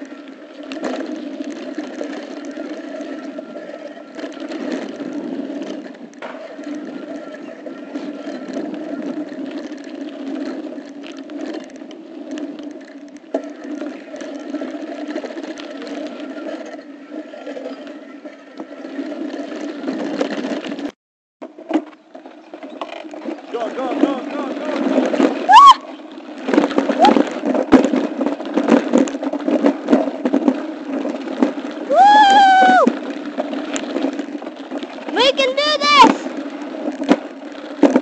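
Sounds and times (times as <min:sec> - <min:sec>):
bike rattling and clicking: 0:00.0 - 0:38.0
wind and tyre noise: 0:00.0 - 0:38.0.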